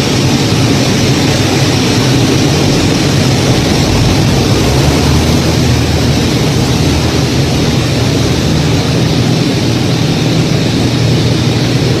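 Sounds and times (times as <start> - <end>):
airplane engine and propeller hum: 0.0 - 12.0.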